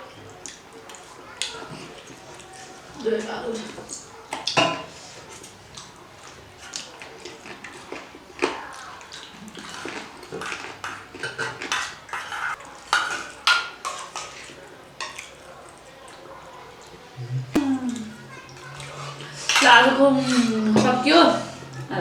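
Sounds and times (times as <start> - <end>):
dishes and utensils clinking: 0.5 - 16.2, 17.5 - 21.9.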